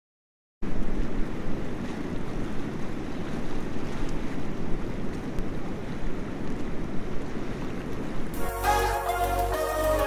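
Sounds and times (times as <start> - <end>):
rushing churning water: 0.7 - 10.0.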